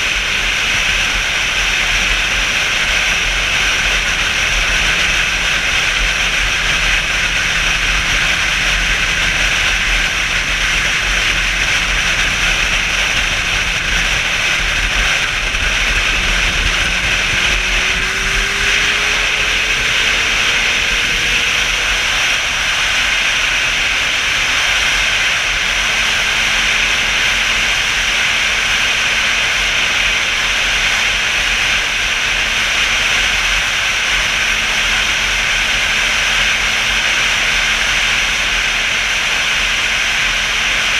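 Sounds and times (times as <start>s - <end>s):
faint motorcycle engine hum: 0.0s - 40.9s
wind noise on microphone: 0.0s - 40.9s.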